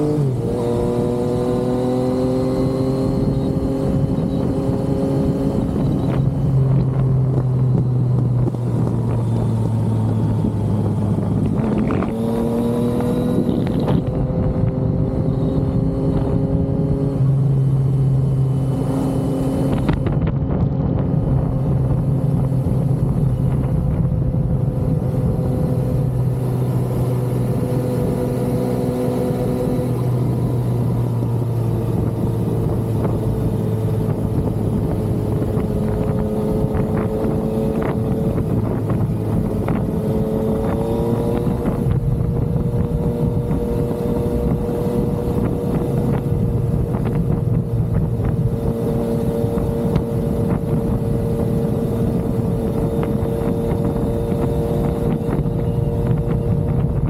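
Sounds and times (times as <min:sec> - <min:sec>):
motorcycle engine cruising: 0:00.0 - 0:57.0
wind noise on microphone: 0:00.0 - 0:57.0.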